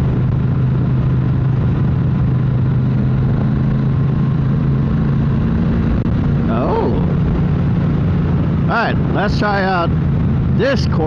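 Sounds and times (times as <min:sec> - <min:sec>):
wind rushing: 0:00.0 - 0:10.7
motorcycle engine running: 0:00.0 - 0:11.0
road noise: 0:00.0 - 0:11.0.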